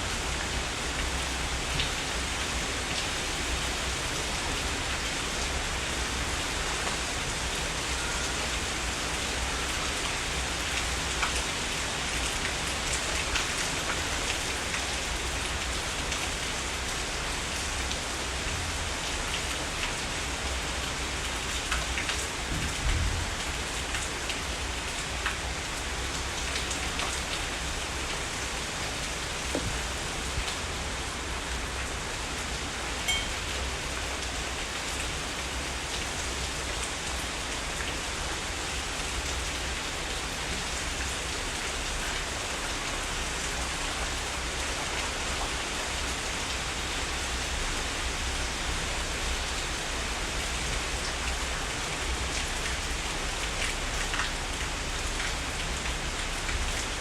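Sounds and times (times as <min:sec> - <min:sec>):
heavy rain: 0:00.0 - 0:57.0
raindrops ticking on surfaces: 0:00.1 - 0:57.0.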